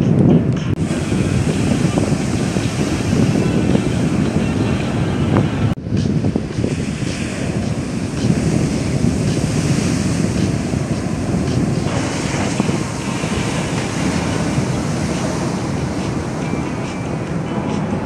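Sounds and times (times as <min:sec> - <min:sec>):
wind buffeting microphone: 0:00.0 - 0:18.0
waves breaking: 0:00.8 - 0:18.0.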